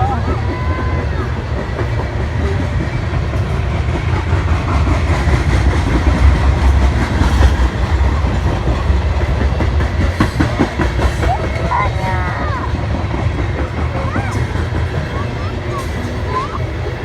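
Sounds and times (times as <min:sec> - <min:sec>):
train rumbling past: 0:00.0 - 0:17.0
wheels clattering over rails: 0:00.0 - 0:17.0.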